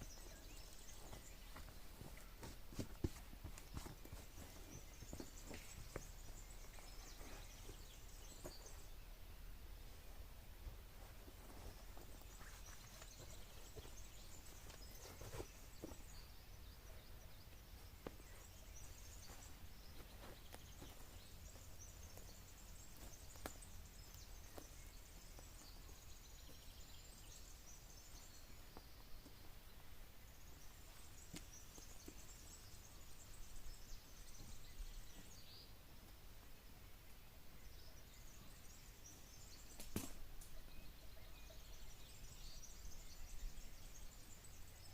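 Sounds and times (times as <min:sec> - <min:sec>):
distant birdsong: 0:00.0 - 0:44.9.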